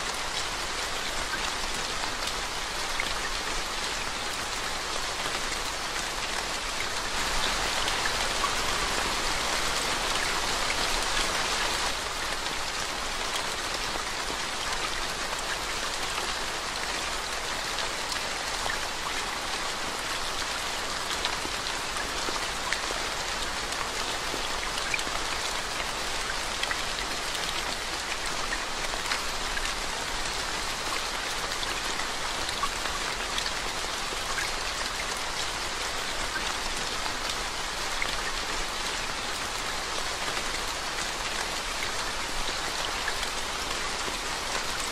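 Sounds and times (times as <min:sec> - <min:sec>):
rain on a flooded road: 0:00.0 - 0:44.9.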